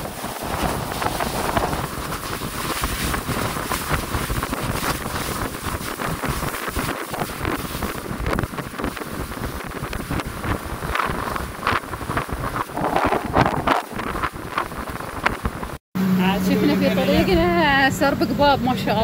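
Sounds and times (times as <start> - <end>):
wind rushing over microphone: 0.0 - 15.8
boat water noise: 0.0 - 19.0.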